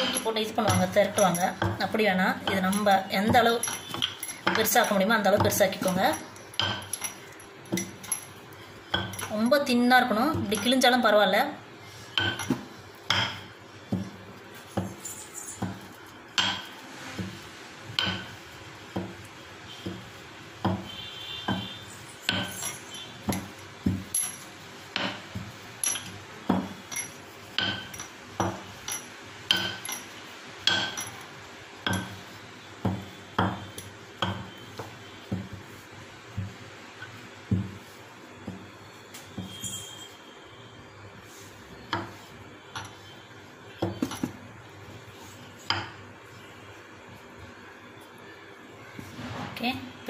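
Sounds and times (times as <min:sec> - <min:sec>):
dough tapping with metallic clink: 0:00.0 - 0:11.1, 0:12.1 - 0:40.2, 0:41.7 - 0:45.0, 0:45.6 - 0:46.4.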